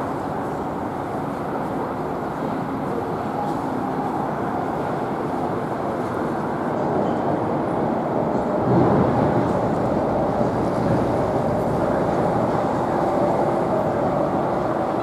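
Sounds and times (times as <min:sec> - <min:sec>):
train rail rumble: 0:00.0 - 0:15.0.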